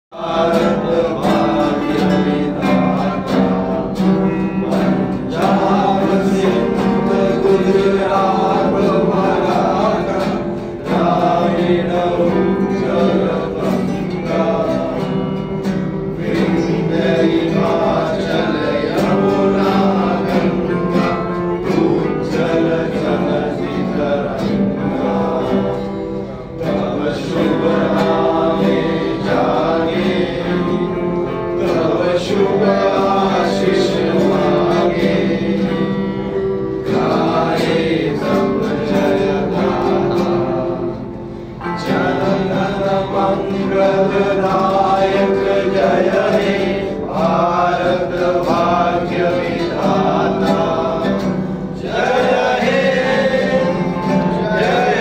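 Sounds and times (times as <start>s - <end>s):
men singing together: 0.1s - 55.0s
strummed acoustic guitars: 0.1s - 55.0s.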